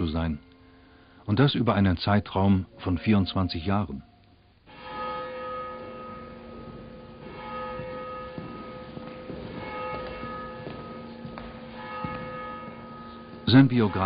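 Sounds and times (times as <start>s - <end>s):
church bell ringing: 0.0s - 2.0s, 4.6s - 14.0s.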